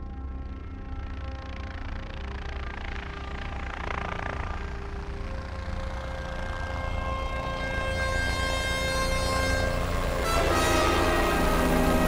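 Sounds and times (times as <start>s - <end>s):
low pulsing drone: 0.0s - 12.0s.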